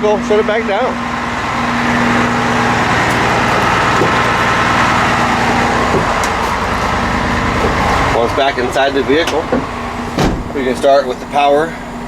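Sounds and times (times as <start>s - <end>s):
diesel truck engine at high idle: 0.0s - 12.0s.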